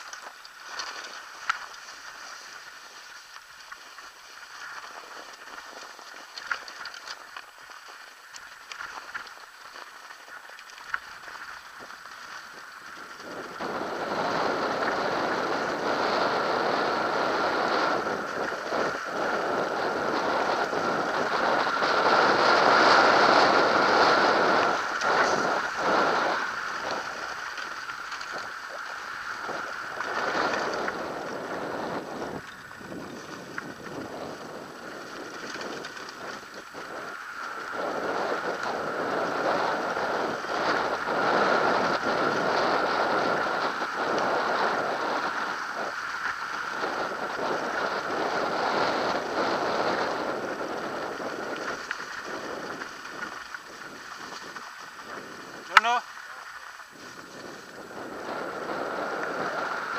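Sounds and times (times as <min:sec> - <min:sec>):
bike tyre noise: 0:00.0 - 0:59.9
wind rushing over microphone: 0:11.2 - 0:59.9.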